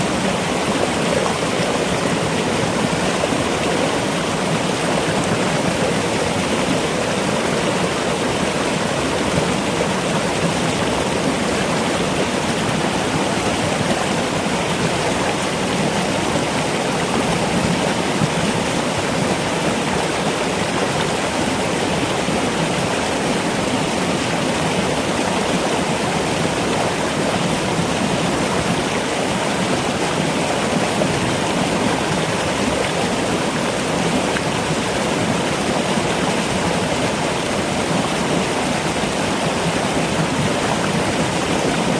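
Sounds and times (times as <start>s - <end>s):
running water rushing: 0.0s - 41.9s.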